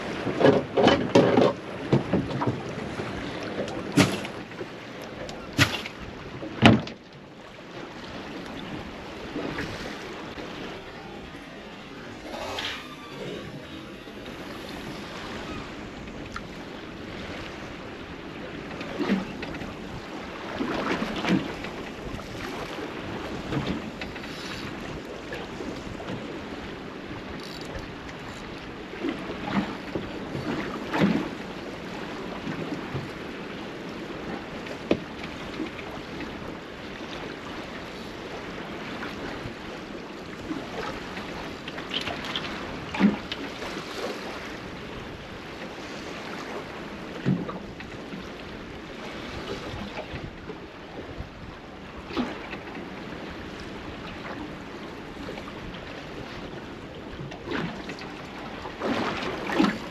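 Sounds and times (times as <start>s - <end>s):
water lapping against boat hull: 0.0s - 59.9s
wind on microphone: 7.8s - 59.9s.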